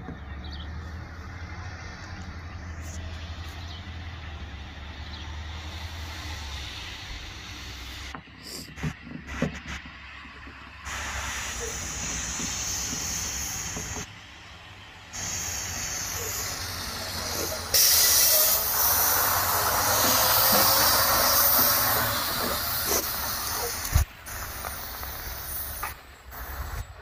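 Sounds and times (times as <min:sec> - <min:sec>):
truck engine humming: 0:00.0 - 0:27.0
truck hissing: 0:02.5 - 0:09.4, 0:10.8 - 0:27.0.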